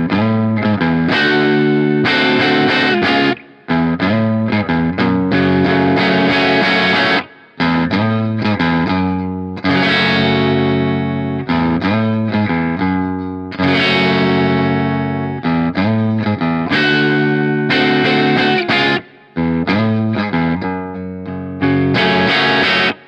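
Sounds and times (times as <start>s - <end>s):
electric guitar chords: 0.0s - 23.0s.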